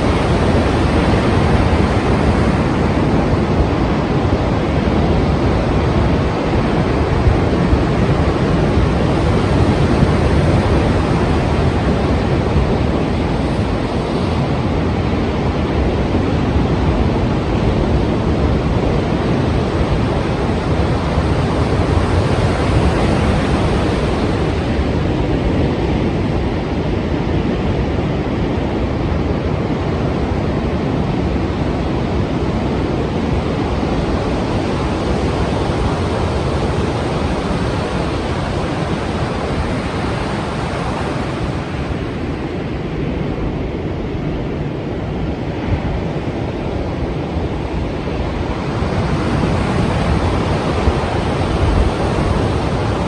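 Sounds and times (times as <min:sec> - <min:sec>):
sea surf breaking waves: 0:00.0 - 0:53.0.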